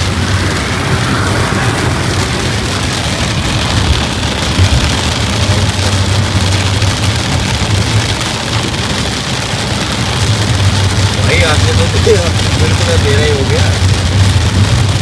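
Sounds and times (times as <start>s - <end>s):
engine and road noise: 0.0s - 15.0s
heavy rain on a car: 0.0s - 15.0s.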